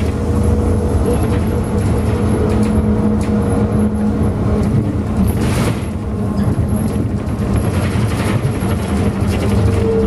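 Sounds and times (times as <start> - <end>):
bus engine drone: 0.0 - 10.0
road rumble: 0.0 - 10.0.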